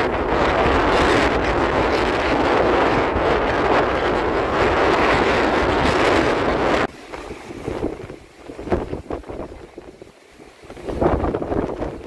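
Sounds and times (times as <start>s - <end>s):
waves breaking on beach: 0.0s - 12.0s
wind buffeting microphone: 0.0s - 12.0s.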